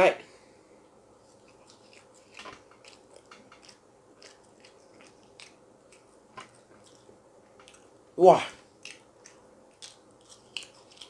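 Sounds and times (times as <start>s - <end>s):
faint chewing: 0.8s - 11.0s.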